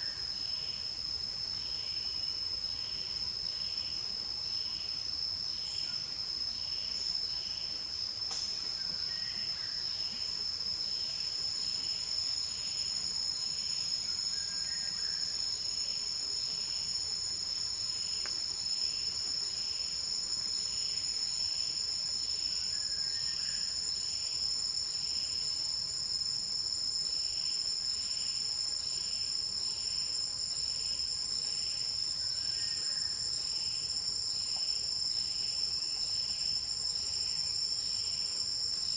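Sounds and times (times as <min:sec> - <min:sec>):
high-pitched insect drone: 0:00.0 - 0:38.9
pulsing insect call: 0:04.8 - 0:38.9.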